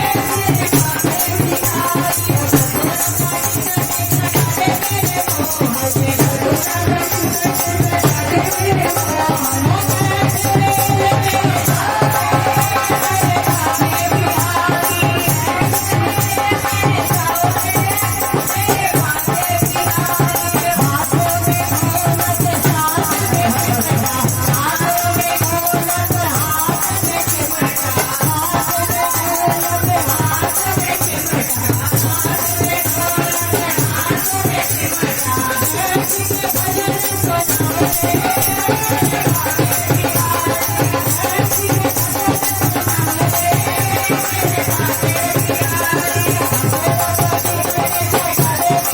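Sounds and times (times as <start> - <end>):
devotional song melody: 0.0 - 48.9
fast dense percussion: 0.0 - 48.9.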